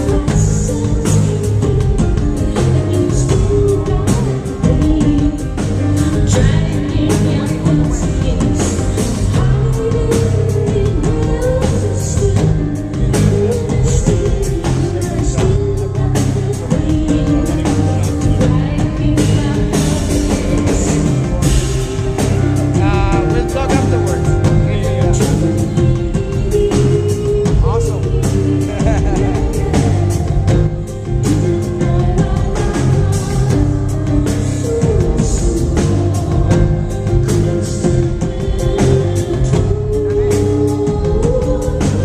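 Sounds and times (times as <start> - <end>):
drum kit beat: 0.0 - 42.0
rock band playing live: 0.0 - 42.0
woman singing: 0.0 - 42.0.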